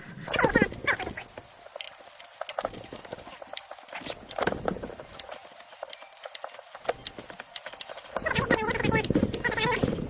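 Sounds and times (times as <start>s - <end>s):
ratchet clicking: 0.3s - 10.0s.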